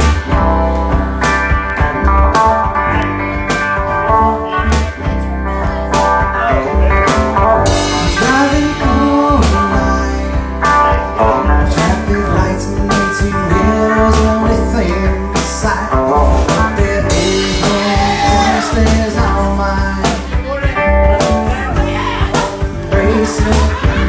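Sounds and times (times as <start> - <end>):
electric guitar strummed and picked: 0.0 - 24.0
man singing: 4.0 - 24.0.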